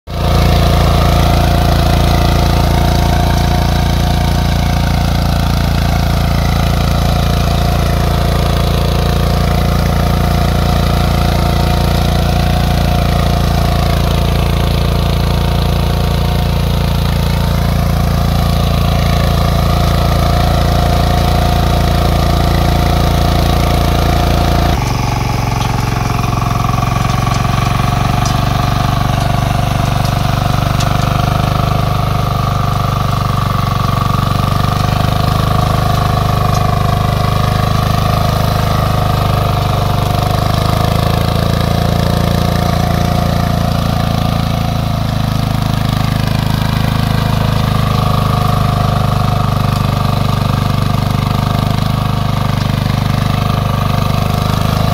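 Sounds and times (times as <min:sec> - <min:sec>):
tiller churning soil: 0:00.0 - 0:54.9
power weeder engine running: 0:00.1 - 0:54.9.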